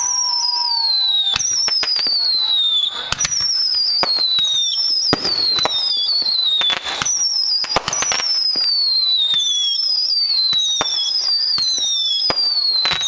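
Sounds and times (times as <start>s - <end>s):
fireworks bangs: 0.0s - 13.0s
fireworks whistling: 0.0s - 13.0s.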